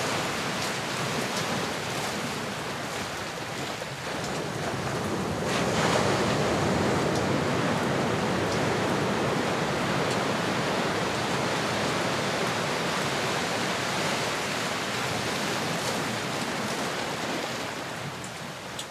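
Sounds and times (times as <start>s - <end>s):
ocean waves washing: 0.0s - 18.9s.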